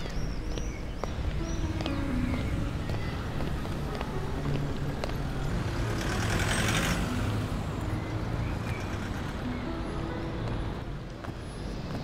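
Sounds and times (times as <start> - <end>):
road traffic engine hum: 0.0 - 12.0.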